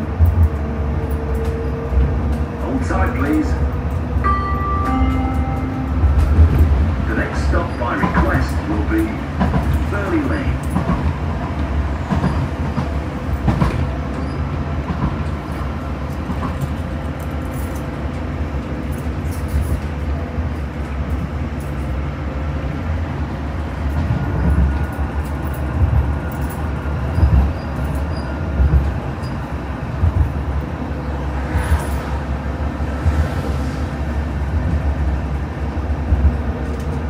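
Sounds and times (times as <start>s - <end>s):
tram wheels rumbling on rail: 0.0s - 37.0s.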